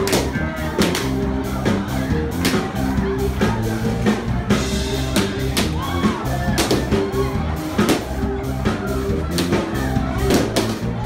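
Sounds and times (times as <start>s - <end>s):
loud party music: 0.0s - 11.0s
steady drum beat: 0.0s - 11.0s.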